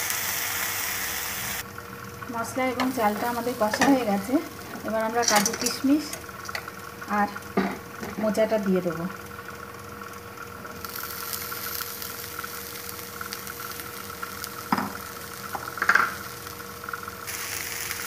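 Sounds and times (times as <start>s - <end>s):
food sizzling in pan: 0.0s - 18.0s.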